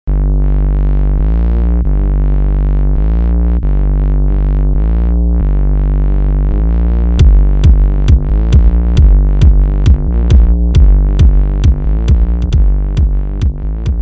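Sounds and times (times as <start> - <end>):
deep steady bass: 0.0 - 14.0
sustained synthesizer chords: 0.1 - 14.0.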